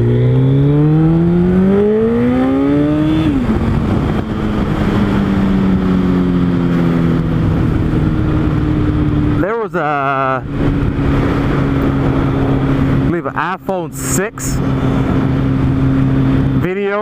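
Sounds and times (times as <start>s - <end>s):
motorcycle engine accelerating: 0.0s - 17.0s
wind rush over microphone: 1.0s - 9.4s, 10.1s - 16.7s.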